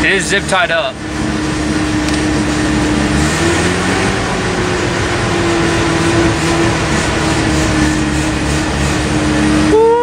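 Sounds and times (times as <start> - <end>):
rotary engine running: 0.1 - 9.8.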